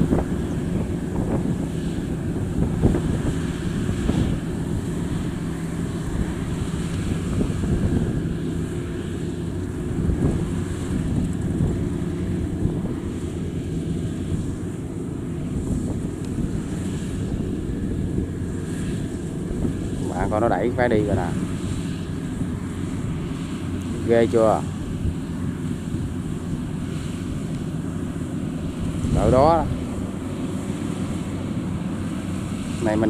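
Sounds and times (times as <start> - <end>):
diesel engine running: 0.0 - 33.0
wind buffeting microphone: 0.0 - 33.0.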